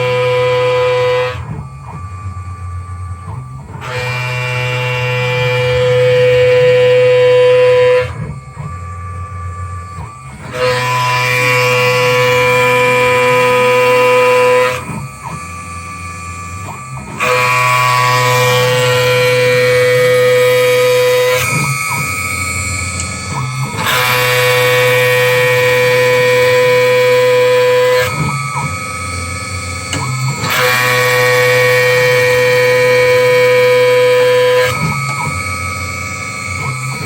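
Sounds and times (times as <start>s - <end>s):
gliding motor tones: 0.0s - 37.0s
router high-pitched cutting whine: 0.0s - 37.0s
low spindle hum: 4.6s - 37.0s.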